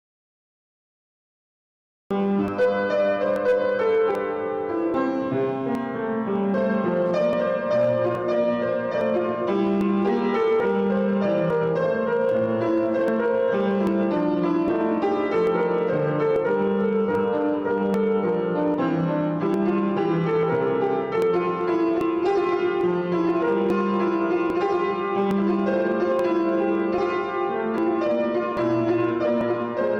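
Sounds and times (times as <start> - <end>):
piano music: 2.1 - 29.9.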